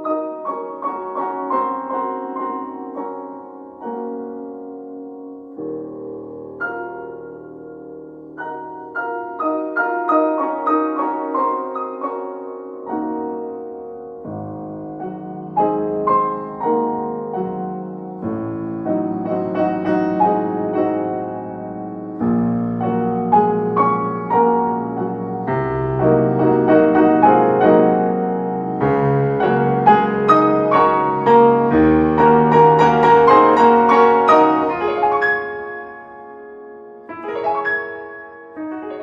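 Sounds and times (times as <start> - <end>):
solo piano piece: 0.0 - 39.0.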